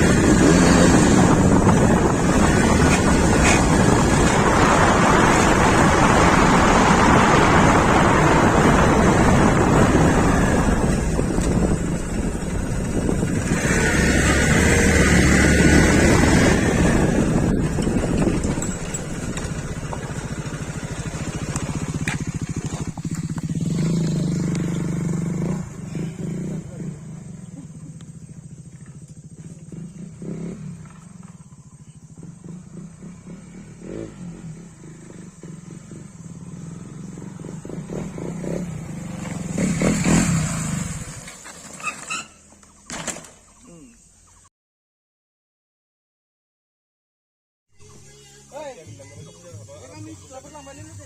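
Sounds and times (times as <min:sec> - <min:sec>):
motorcycle engine putting: 0:00.0 - 0:43.9.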